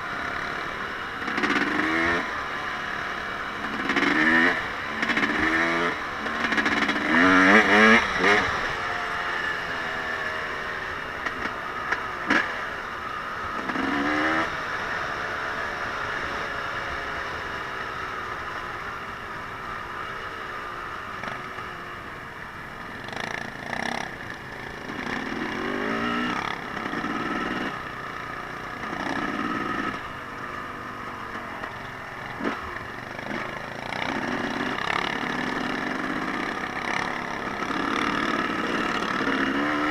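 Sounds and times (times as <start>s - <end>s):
off-road engines revving: 0.0s - 21.7s, 22.7s - 39.9s.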